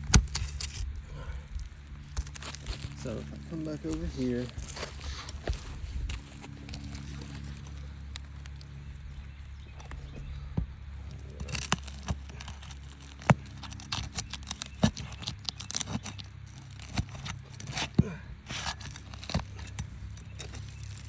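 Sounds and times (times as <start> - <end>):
roof shingles crackling and tearing: 0.0 - 21.0
steady low hum: 0.0 - 21.0.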